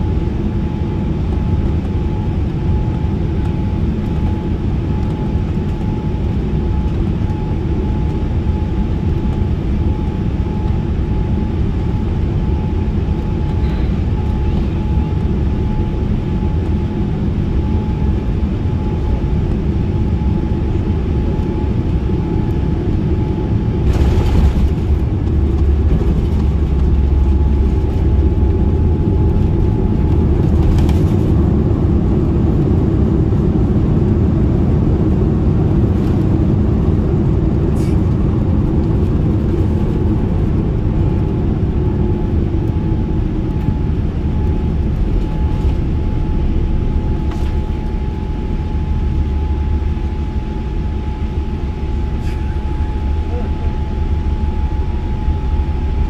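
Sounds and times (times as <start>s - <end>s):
thin steady whine: 0.0s - 35.2s, 35.9s - 56.0s
aircraft cabin low rumble: 0.0s - 56.0s.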